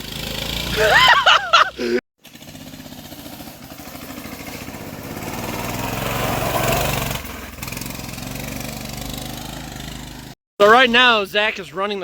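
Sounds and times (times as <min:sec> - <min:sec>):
small petrol engine running: 0:00.0 - 0:10.4.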